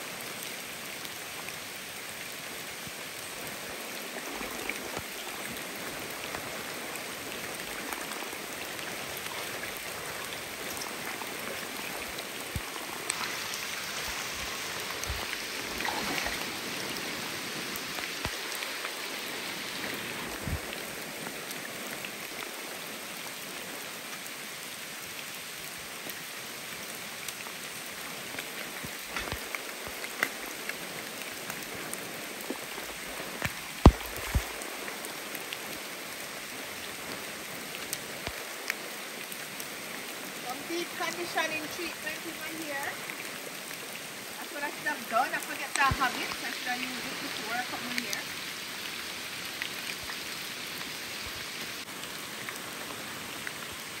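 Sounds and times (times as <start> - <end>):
rain on a rocky river: 0.0 - 54.0.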